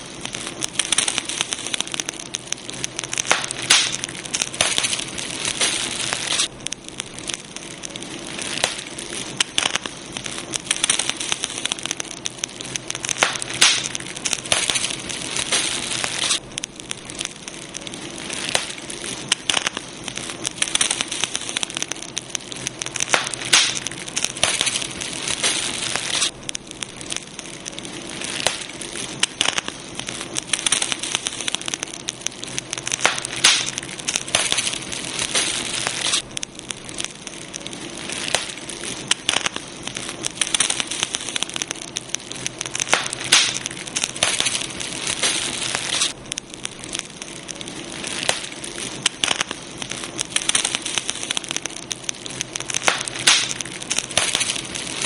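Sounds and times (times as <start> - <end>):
campfire crackling and popping: 0.0 - 55.0
fire hiss: 0.0 - 55.0.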